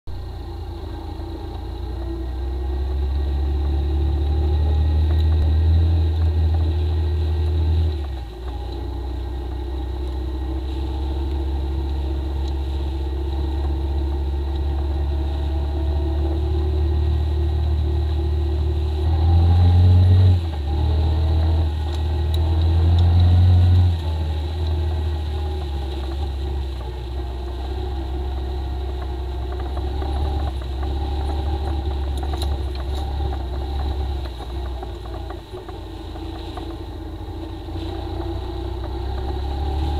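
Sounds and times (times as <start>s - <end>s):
atv engine pulling under throttle: 0.1s - 39.9s.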